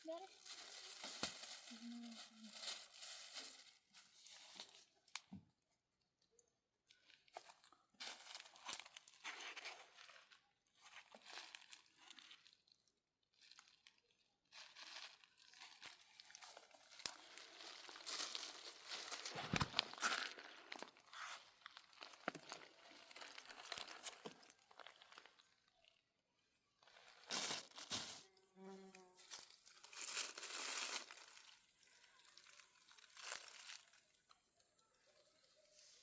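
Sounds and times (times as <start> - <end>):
faint rustling and crinkling: 0.0 - 36.0.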